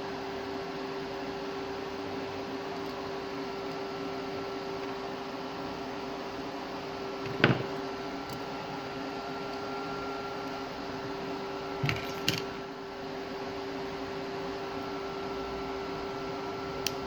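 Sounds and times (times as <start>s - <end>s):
bench equipment humming: 0.0s - 17.0s.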